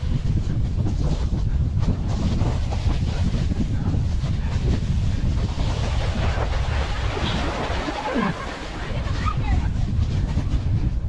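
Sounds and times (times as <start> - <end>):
sled runners scraping on snow: 0.0 - 11.0
wind buffeting microphone: 0.0 - 11.0.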